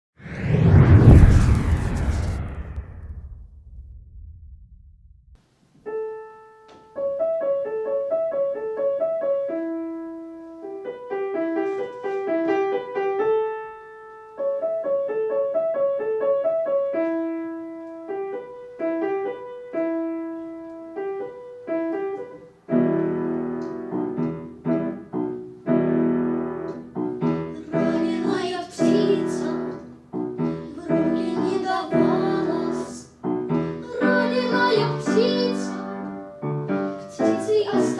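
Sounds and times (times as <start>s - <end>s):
piano playing: 5.9s - 37.9s.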